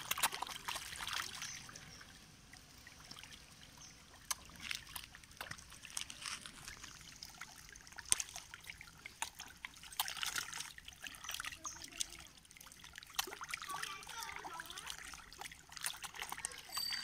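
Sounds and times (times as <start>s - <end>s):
fish splashing in water: 0.0s - 17.0s.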